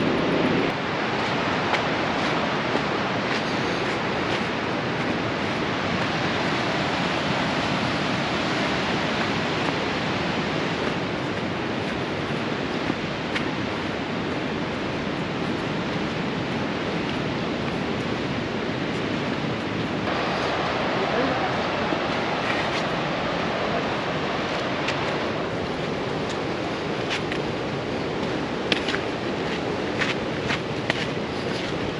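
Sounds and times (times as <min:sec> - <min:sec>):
rushing waterfall: 0:00.0 - 0:31.9.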